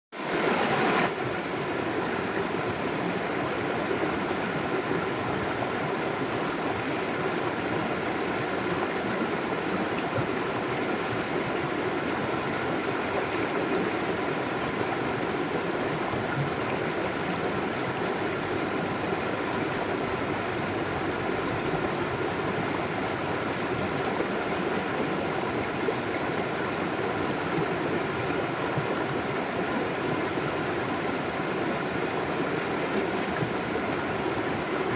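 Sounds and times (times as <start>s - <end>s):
river water flowing over rocks: 0.2s - 34.9s.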